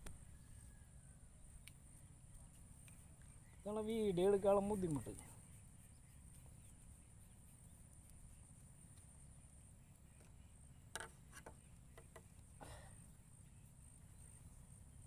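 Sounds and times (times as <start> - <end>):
high insect hum: 0.0 - 15.0.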